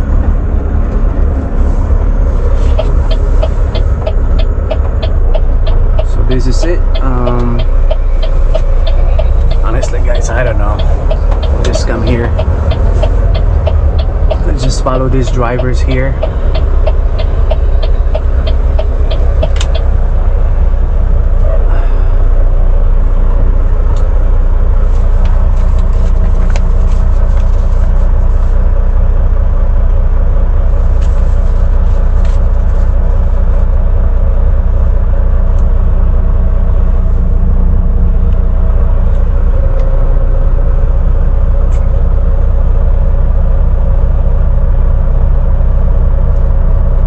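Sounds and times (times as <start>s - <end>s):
diesel truck engine rumble: 0.0s - 47.0s.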